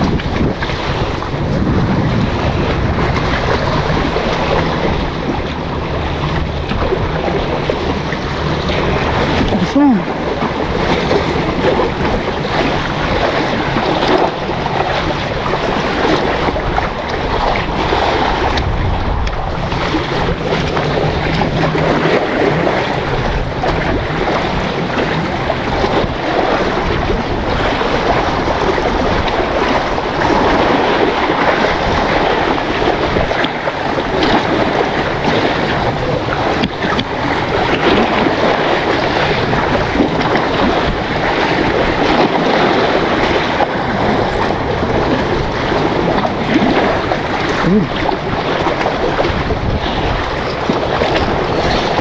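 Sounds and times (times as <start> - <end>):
sea waves against rocks: 0.0 - 52.0
wind buffeting microphone: 0.0 - 52.0.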